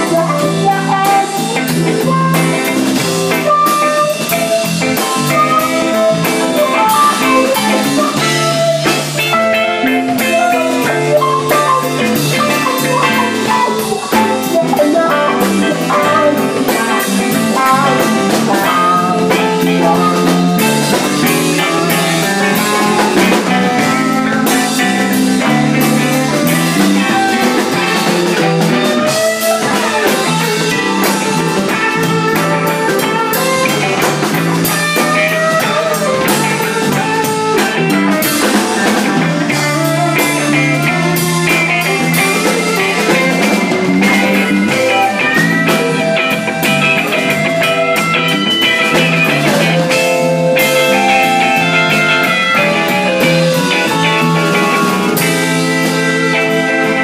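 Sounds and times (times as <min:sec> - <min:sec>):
drum kit: 0:00.0 - 0:57.0
electric bass: 0:00.0 - 0:57.0
electric guitar lead lines: 0:00.0 - 0:57.0.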